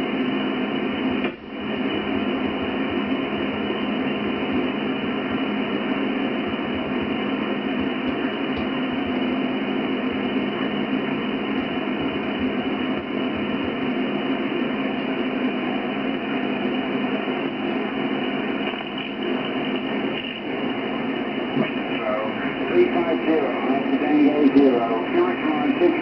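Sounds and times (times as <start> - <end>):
radio band noise hiss: 0.0 - 26.0.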